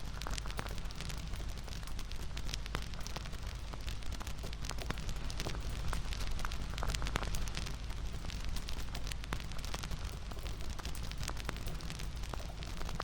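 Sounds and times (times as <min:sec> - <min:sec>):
low rumble of burning fire: 0:00.0 - 0:13.0
wood fire crackling and popping: 0:00.0 - 0:13.0.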